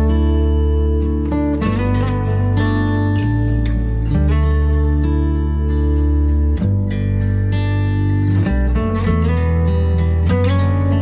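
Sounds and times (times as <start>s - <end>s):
acoustic guitar music: 0.0s - 11.0s
steady bass: 0.0s - 11.0s.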